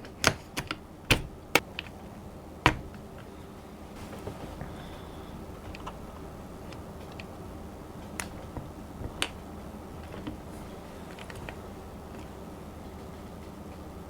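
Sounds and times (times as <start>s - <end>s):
keyboard parts clicking and tapping: 0.0s - 3.4s, 4.2s - 13.9s
steady low hum: 0.0s - 14.0s.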